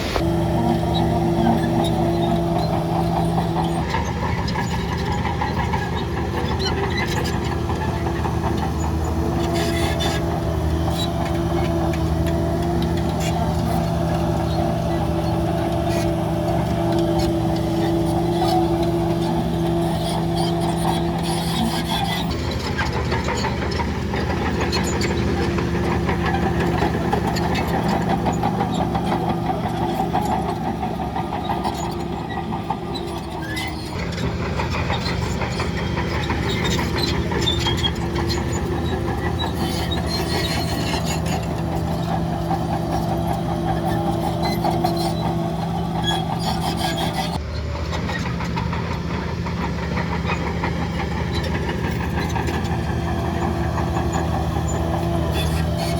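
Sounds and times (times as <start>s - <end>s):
heavy diesel engine running: 0.0s - 55.9s
machinery rattling and clanking: 0.0s - 55.9s.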